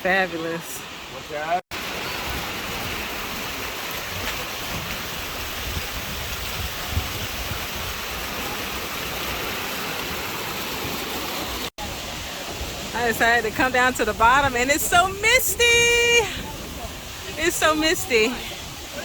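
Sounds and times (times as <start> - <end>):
waterfall rushing: 0.1 - 19.0.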